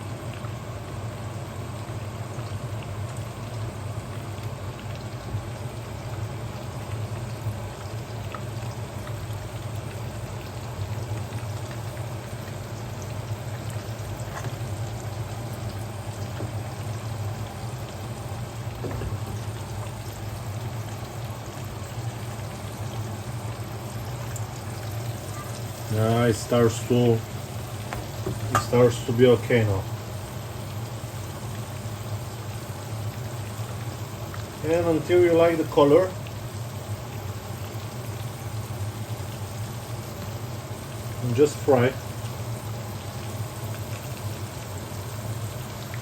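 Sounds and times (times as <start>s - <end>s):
constant low hum: 0.0s - 46.0s
meat sizzling in oil: 0.0s - 46.0s.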